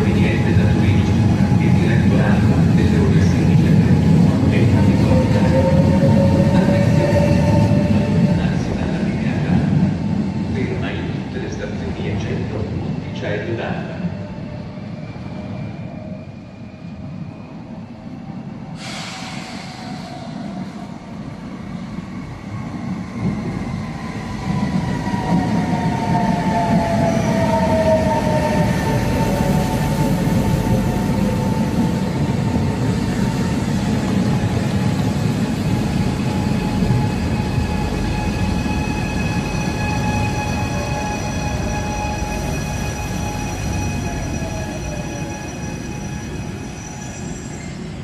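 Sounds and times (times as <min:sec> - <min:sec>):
train wheels rumbling on rail: 0:00.0 - 0:14.4, 0:18.6 - 0:48.0.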